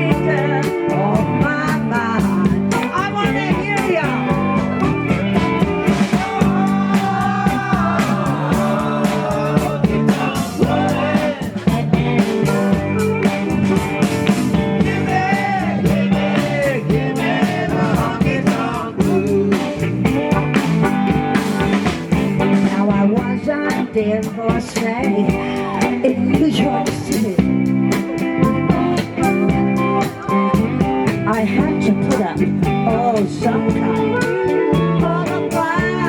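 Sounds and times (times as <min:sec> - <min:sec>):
country-rock band music: 0:00.0 - 0:36.0.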